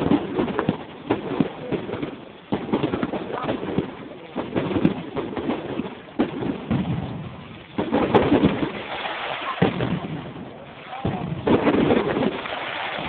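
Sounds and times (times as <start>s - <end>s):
fireworks bangs and booms: 0.0s - 13.0s.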